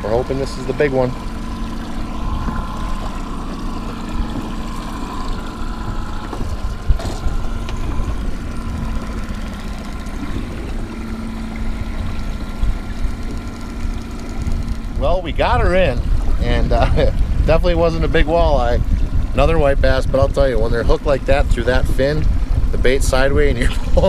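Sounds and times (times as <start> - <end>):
boat motor humming: 0.0 - 24.0
low wind rumble: 0.0 - 24.0.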